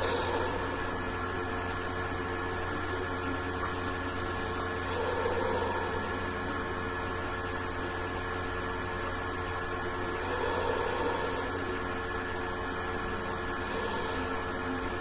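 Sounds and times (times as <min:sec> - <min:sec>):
faint high whine: 0:00.0 - 0:15.0
low electrical hum: 0:00.0 - 0:15.0.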